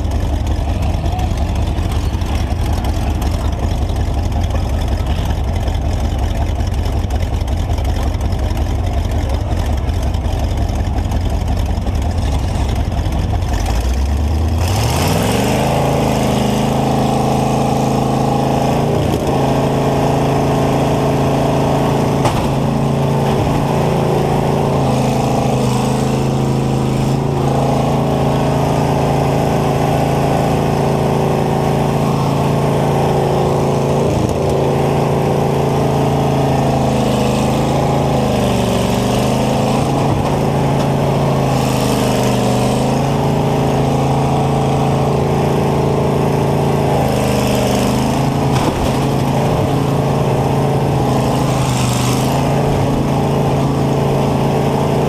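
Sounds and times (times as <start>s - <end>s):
combine engine revving: 0.0s - 55.0s.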